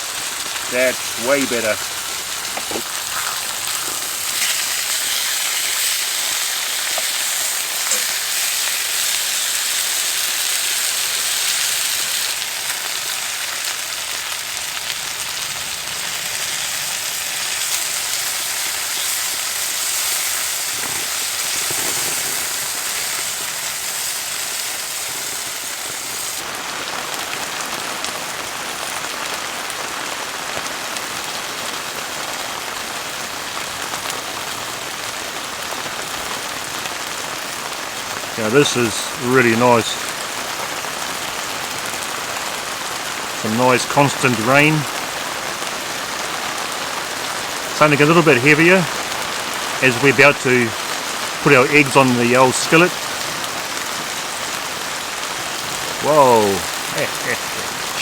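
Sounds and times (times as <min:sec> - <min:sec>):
meat sizzling in a frying pan: 0:00.0 - 0:58.0
rain pattering on a tarp: 0:00.0 - 0:58.0.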